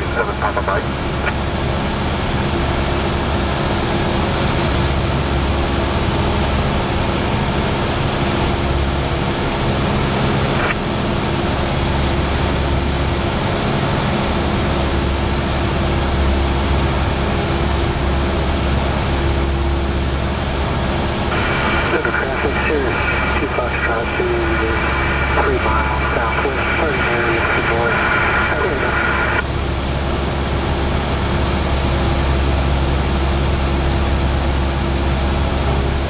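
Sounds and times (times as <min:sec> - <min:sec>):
aircraft engine and propeller droning: 0:00.0 - 0:36.0.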